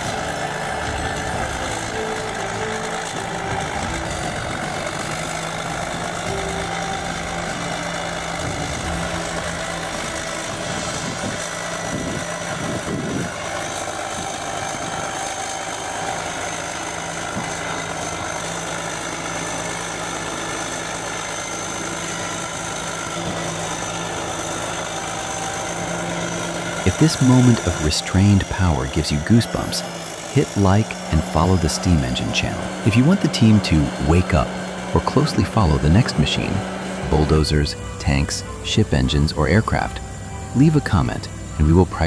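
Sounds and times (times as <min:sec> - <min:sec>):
bulldozer diesel engine idling: 0:00.0 - 0:42.0.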